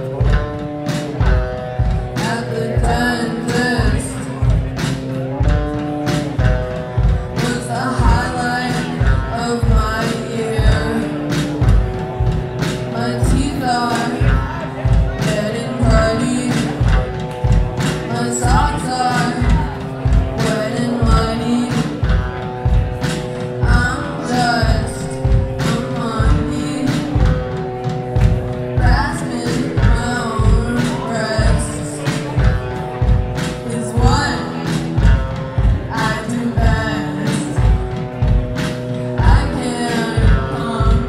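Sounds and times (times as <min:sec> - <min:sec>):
woman singing: 0:00.0 - 0:04.7, 0:05.3 - 0:41.0
drums: 0:00.0 - 0:41.0
electric guitars: 0:00.0 - 0:41.0.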